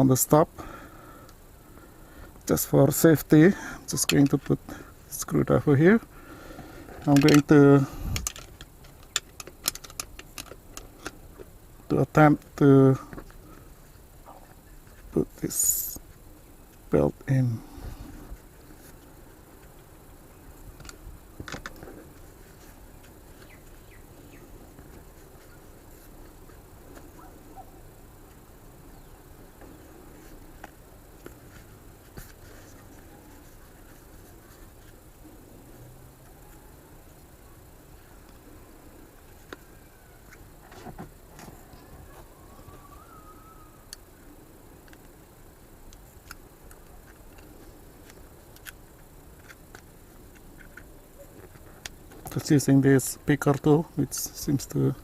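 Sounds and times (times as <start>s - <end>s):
low background hiss: 0.0s - 55.0s.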